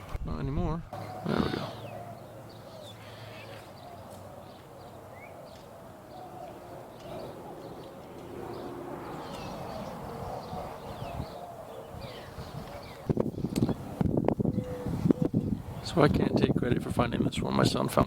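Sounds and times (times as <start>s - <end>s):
small birds chirping: 1.0s - 16.1s.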